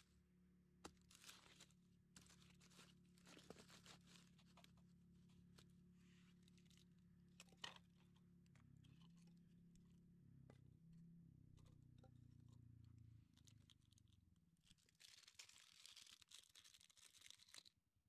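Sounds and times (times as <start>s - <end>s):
faint rustling and crinkling: 0.8s - 17.7s.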